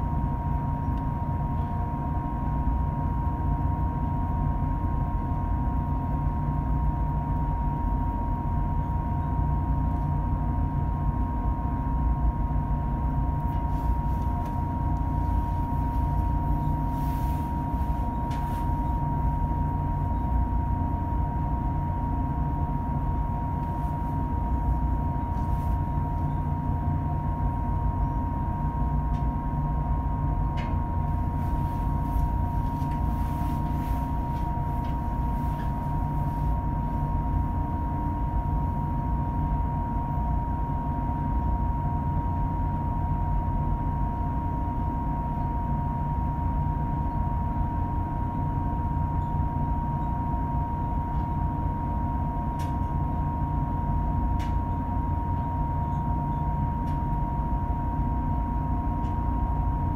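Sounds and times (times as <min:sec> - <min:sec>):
constant high whine: 0:00.0 - 0:59.9.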